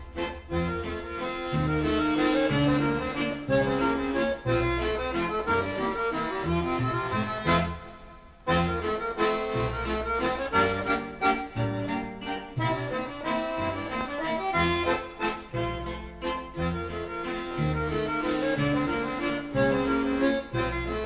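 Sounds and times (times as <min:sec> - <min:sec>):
accordion music with bass: 0:00.0 - 0:21.0.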